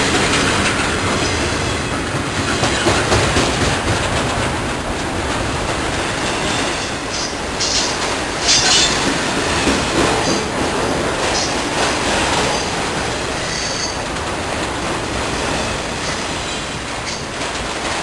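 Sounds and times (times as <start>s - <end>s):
train rolling on rails: 0.0s - 18.0s.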